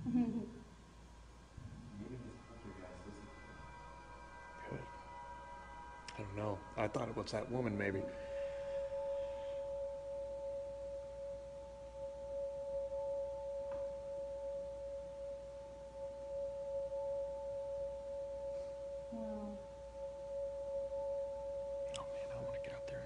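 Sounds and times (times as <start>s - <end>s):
steady two-pitch electronic tone: 1.2s - 23.0s.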